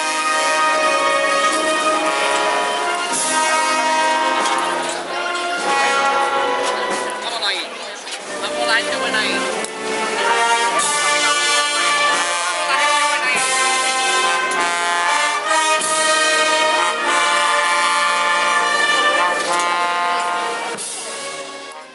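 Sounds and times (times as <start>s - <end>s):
brass band playing a slow march: 0.0s - 21.9s.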